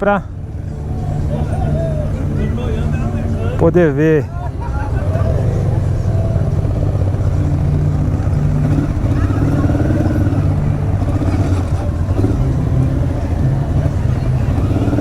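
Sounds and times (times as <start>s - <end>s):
faint background voices: 0.0s - 15.0s
motorcycle engine running: 0.0s - 15.0s.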